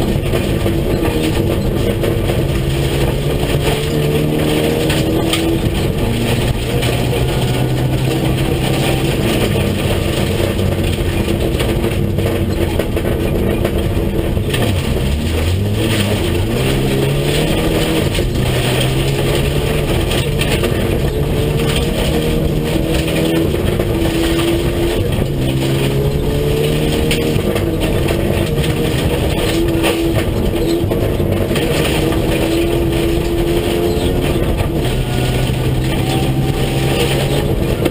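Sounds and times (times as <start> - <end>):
car engine revving: 0.0 - 37.9
road and tyre noise: 0.0 - 37.9.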